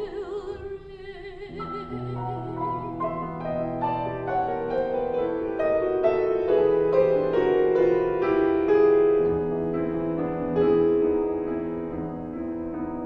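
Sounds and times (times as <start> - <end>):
grand piano playing: 1.5 - 13.0.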